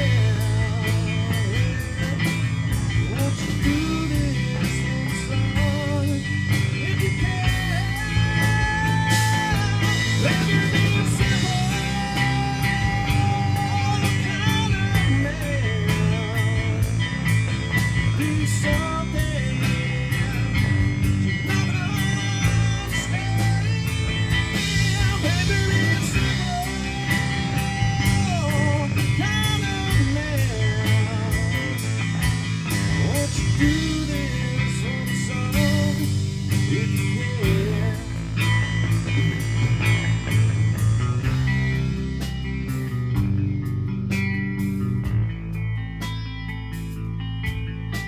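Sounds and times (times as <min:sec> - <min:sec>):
live rock band playing: 0:00.0 - 0:48.0.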